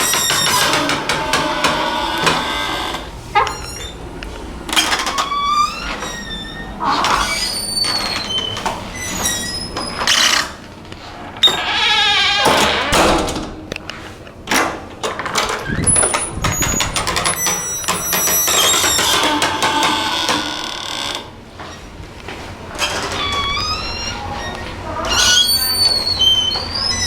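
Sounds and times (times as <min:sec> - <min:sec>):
creaking doors: 0:00.0 - 0:13.8, 0:14.6 - 0:27.0
doors closing: 0:00.0 - 0:13.8, 0:14.5 - 0:21.9, 0:22.5 - 0:27.0.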